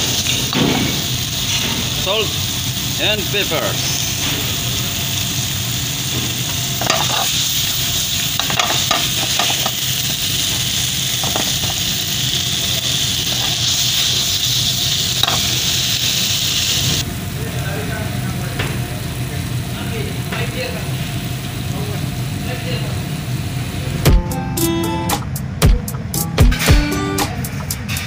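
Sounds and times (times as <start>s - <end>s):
sauce sizzling in a frying pan: 0.0s - 23.8s.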